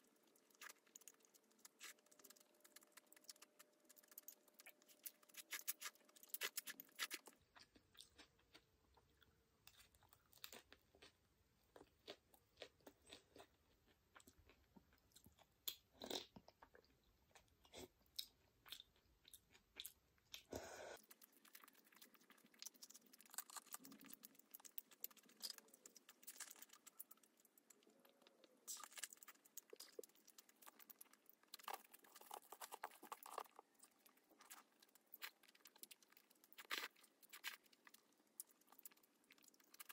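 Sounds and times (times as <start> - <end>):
chewing crunches: 0.0 - 39.9.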